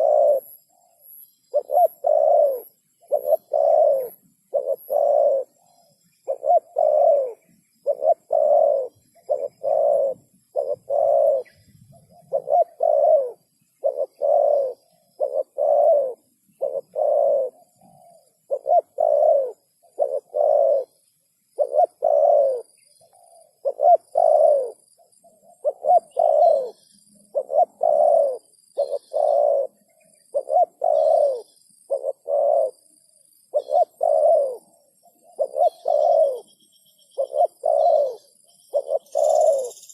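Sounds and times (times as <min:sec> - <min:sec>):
dove cooing: 0:00.0 - 0:39.9
faint high-pitched chirps: 0:00.0 - 0:39.9.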